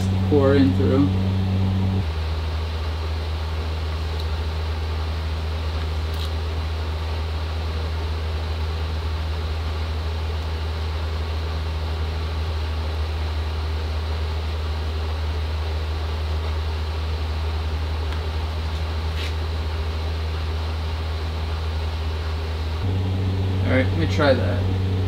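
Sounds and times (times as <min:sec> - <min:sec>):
forge blower humming: 0:00.0 - 0:25.0.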